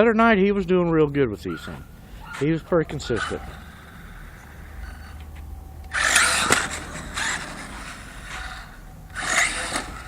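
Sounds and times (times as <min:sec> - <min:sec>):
rc truck tyres scraping pavement: 0:01.6 - 0:10.0.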